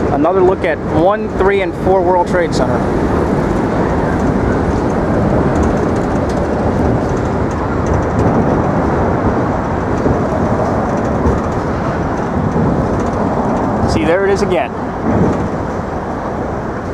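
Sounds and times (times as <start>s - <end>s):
vehicle traffic rumble: 0.0s - 16.9s.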